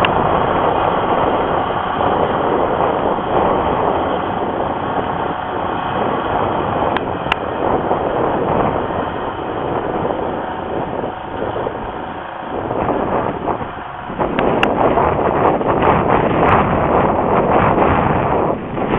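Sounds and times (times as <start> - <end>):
tractor engine under load: 0.0 - 18.9
wind buffeting microphone: 0.0 - 18.9.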